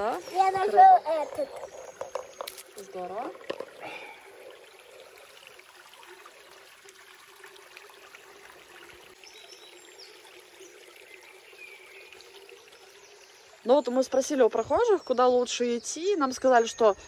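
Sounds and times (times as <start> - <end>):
stream trickling over stones: 0.0 - 17.0.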